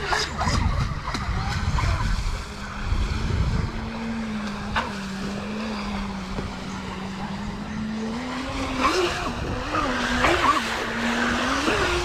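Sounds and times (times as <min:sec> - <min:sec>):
low rumble: 0:00.0 - 0:09.6
electric boat motor whining: 0:00.0 - 0:12.0.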